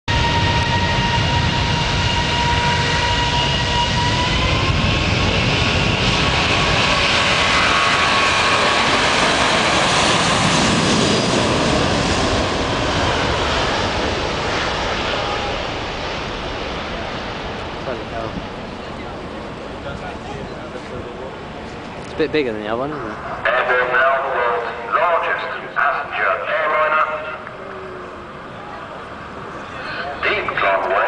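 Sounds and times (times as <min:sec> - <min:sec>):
jet engine roar: 0:00.1 - 0:31.0
jet engine whine: 0:00.1 - 0:31.0.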